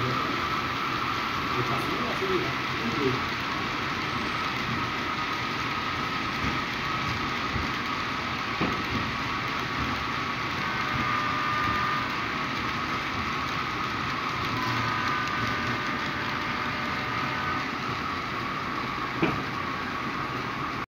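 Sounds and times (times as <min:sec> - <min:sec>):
model trains rolling on track: 0:00.0 - 0:20.8.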